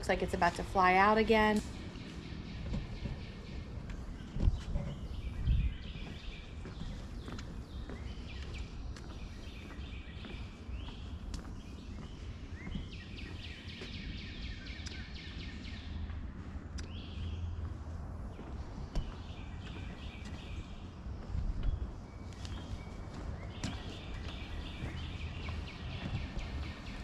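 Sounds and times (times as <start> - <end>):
songbirds singing and chirping: 0.0 - 27.0
steady low rumble: 0.0 - 27.0.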